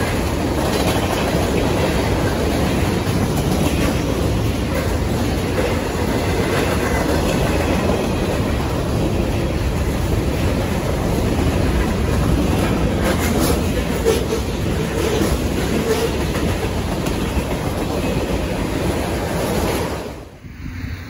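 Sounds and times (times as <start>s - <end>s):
sharp rail clicks: 0.0s - 20.2s
train wheels rumbling on rails: 0.0s - 21.0s.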